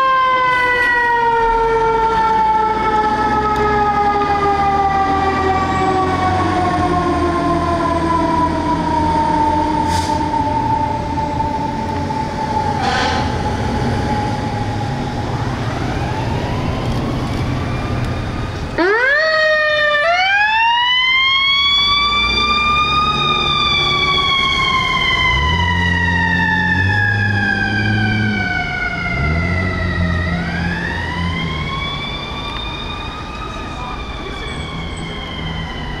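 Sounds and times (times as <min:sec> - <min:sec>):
ambulance siren wailing: 0:00.0 - 0:36.0.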